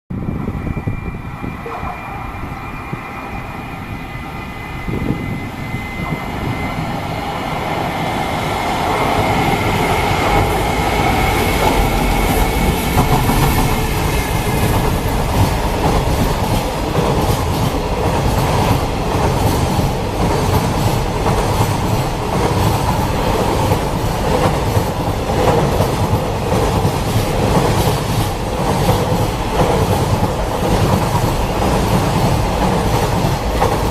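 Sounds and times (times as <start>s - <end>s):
electric locomotive high whine: 0.1s - 33.9s
train rumble: 0.1s - 33.9s.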